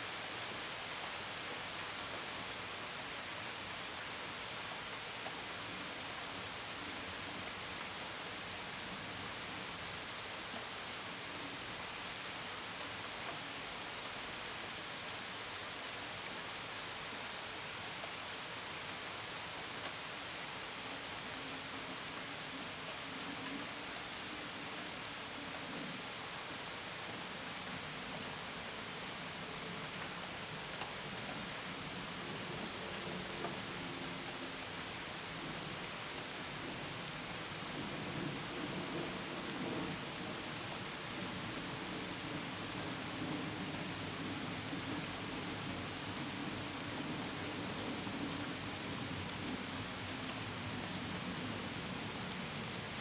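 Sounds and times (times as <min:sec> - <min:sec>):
gentle rain falling: 0:00.0 - 0:53.0
crickets chirping faintly: 0:00.1 - 0:53.0.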